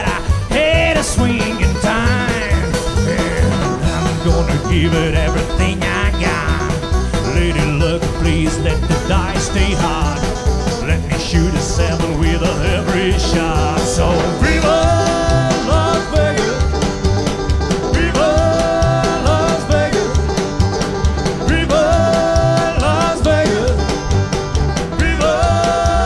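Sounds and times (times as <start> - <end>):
up-tempo country song: 0.0 - 26.0.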